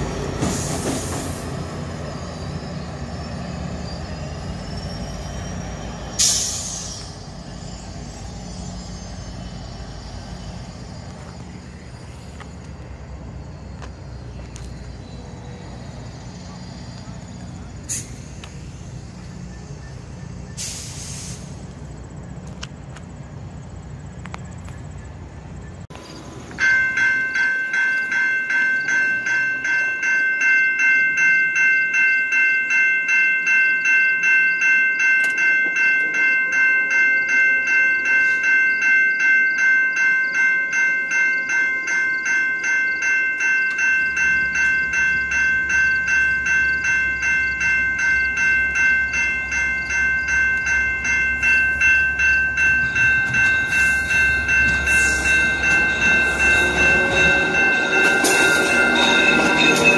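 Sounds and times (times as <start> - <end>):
train locomotive rumble: 0.0 - 59.9
level-crossing warning bell: 1.7 - 23.0, 25.9 - 59.9.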